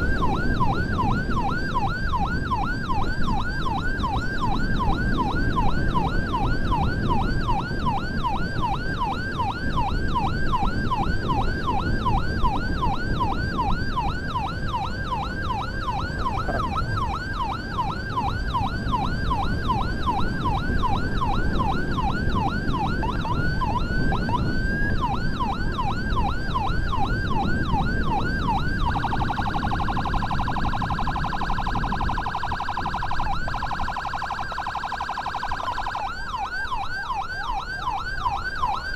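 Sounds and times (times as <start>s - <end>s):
ambulance siren yelping: 0.0s - 38.9s
vehicle rumble: 0.0s - 38.9s.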